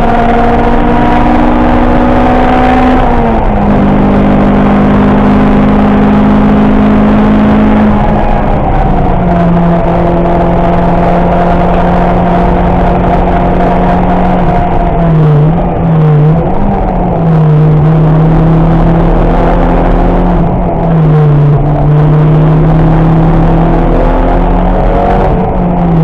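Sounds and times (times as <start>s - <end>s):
car engine at high revs: 0.0s - 26.0s
wind noise: 0.0s - 26.0s.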